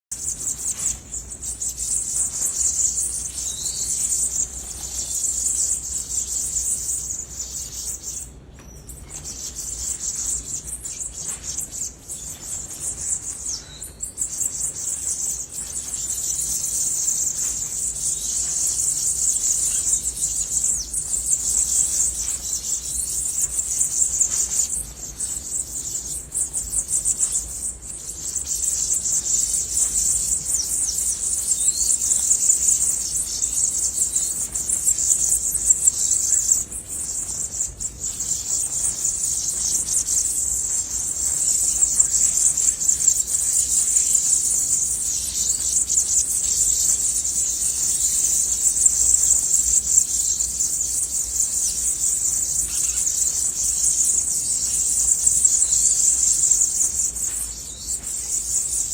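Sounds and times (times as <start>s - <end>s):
insects chirring: 0.1s - 58.9s.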